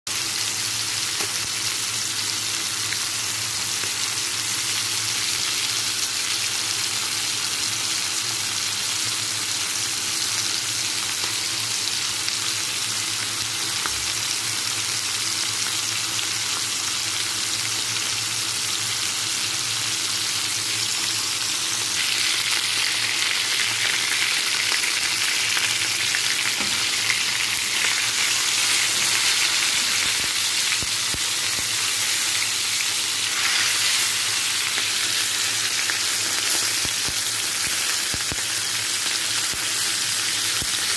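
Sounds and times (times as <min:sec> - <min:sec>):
chicken sizzling in a pan: 0:00.1 - 0:40.9.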